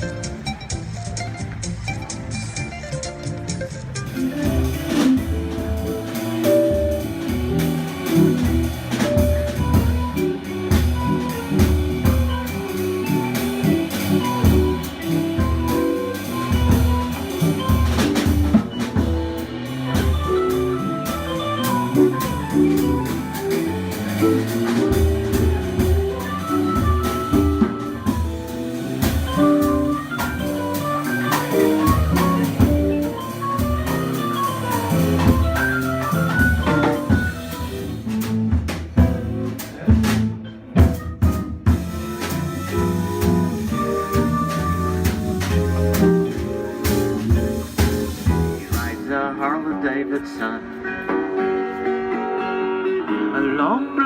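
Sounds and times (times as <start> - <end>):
instrumental band music: 0.0 - 54.0.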